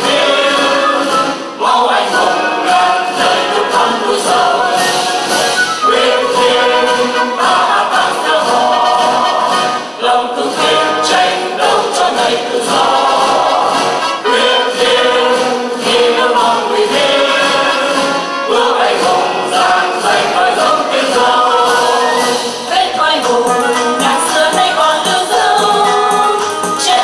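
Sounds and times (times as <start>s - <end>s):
choir singing through microphones: 0.0s - 27.0s.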